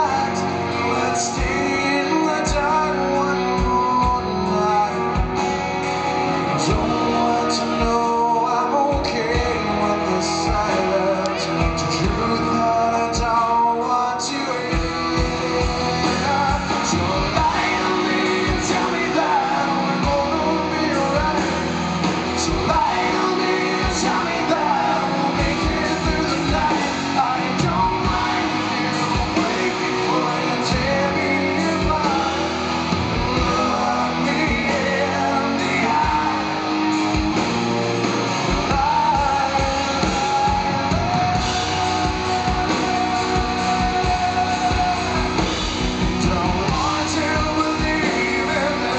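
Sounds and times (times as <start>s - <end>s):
electric guitar lead with bending notes: 0.0s - 48.9s
steady drums: 0.0s - 48.9s.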